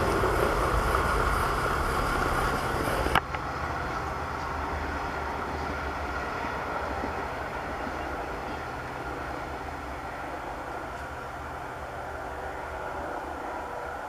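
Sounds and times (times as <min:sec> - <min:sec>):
passenger train rumbling: 0:00.0 - 0:14.0.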